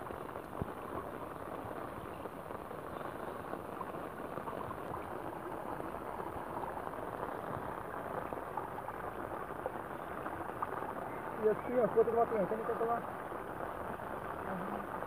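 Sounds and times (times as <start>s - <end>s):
rain falling on water: 0.0s - 15.0s
water running in channel: 0.0s - 15.0s.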